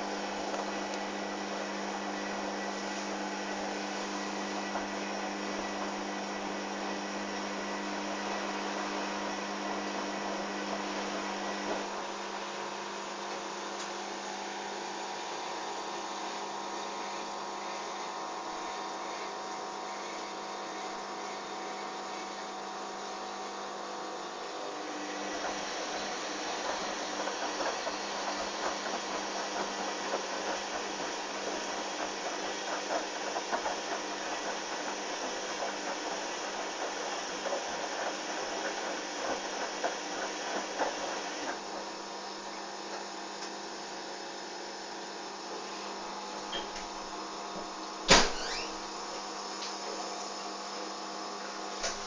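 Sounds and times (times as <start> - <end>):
washing machine motor hum: 0.0 - 52.0.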